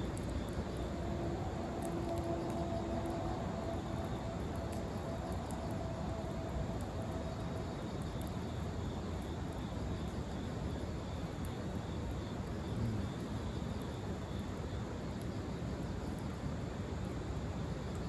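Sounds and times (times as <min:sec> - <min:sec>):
fire rushing noise: 0:00.0 - 0:17.9
faint fire crackles: 0:00.0 - 0:18.0.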